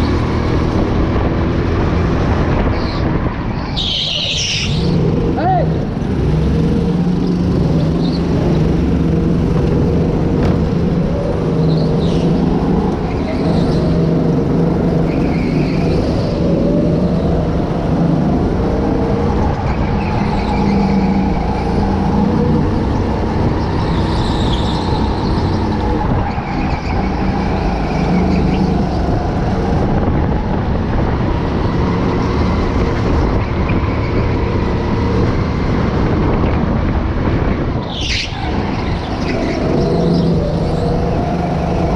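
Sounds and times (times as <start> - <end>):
go-kart engine running hard: 0.0 - 41.9
other go-kart engines: 0.0 - 41.9.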